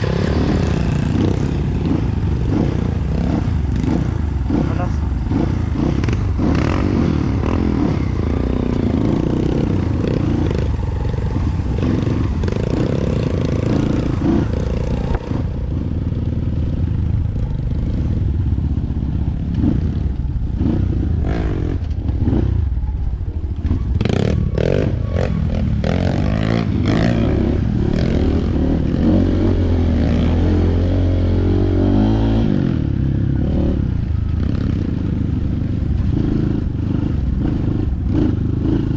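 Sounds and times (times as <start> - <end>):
motorcycle engine revving: 0.0 - 38.9
motorcycle rattling over rough ground: 0.0 - 38.9.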